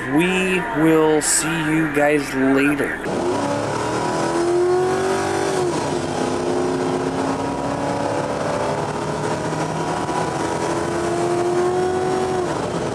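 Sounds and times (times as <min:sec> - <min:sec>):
car engine at high revs: 0:00.0 - 0:12.9.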